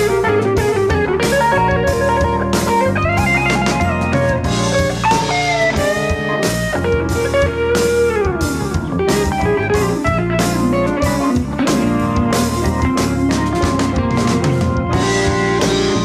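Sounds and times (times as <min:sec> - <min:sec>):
bluesy electric guitar: 0:00.0 - 0:16.0
drum kit beat: 0:00.0 - 0:16.0.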